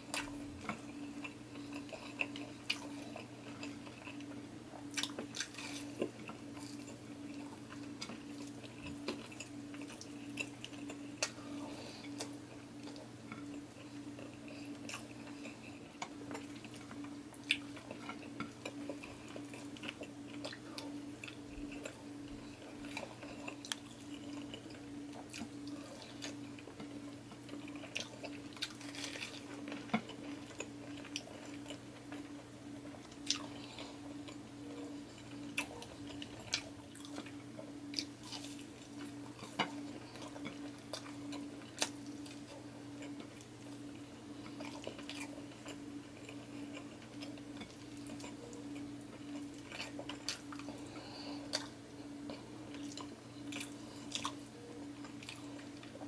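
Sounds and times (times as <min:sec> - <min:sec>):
person chewing and smacking: 0:00.0 - 0:56.0
steady low hum: 0:00.0 - 0:56.0.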